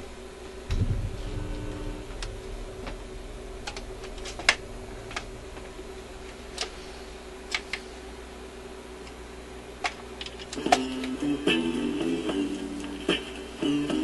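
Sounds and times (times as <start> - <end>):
record player hum: 0.0 - 14.0.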